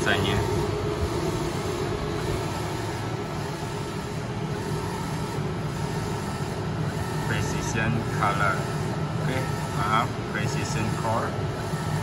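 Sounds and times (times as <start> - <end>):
printer mechanical hum: 0.0 - 12.0.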